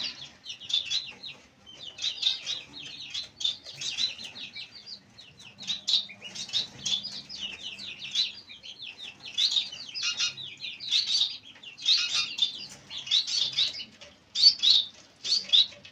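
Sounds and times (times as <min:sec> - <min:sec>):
baby chicks peeping: 0:00.0 - 0:15.9.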